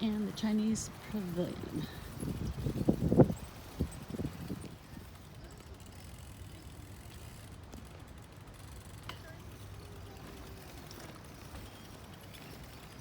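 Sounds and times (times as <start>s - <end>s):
bicycle rolling rumble: 0.0s - 13.0s
bicycle ticks and clicks: 0.0s - 13.0s.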